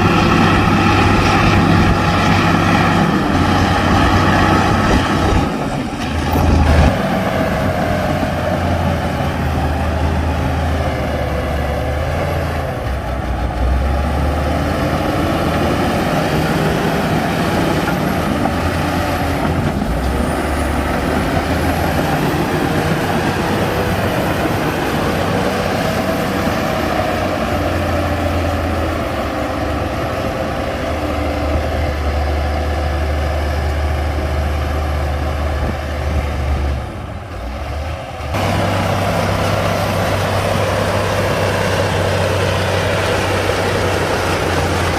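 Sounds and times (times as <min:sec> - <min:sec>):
heavy diesel machinery running: 0:00.0 - 0:44.9.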